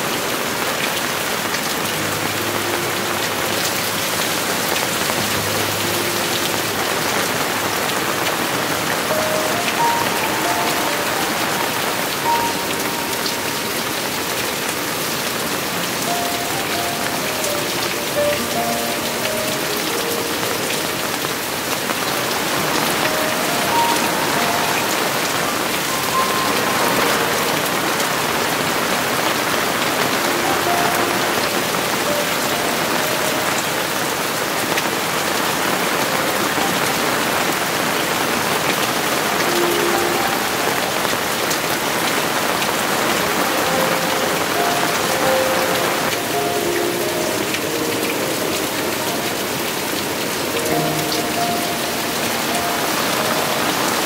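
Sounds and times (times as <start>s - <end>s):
heavy rain hissing: 0.0s - 54.0s
slow melody of single notes: 0.0s - 54.0s.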